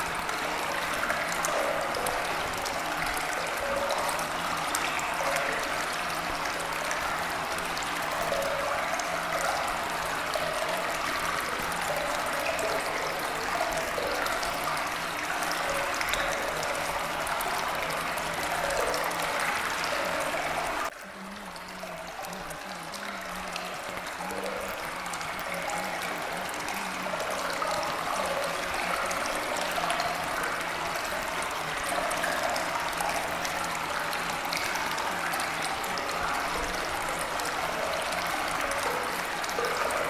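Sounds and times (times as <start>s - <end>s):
running water: 0.0s - 40.0s.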